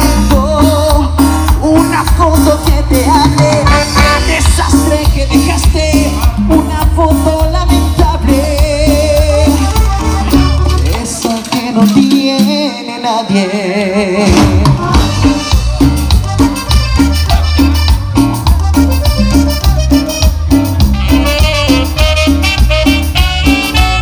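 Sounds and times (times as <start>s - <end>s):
bass: 0.0s - 24.0s
drums: 0.0s - 24.0s.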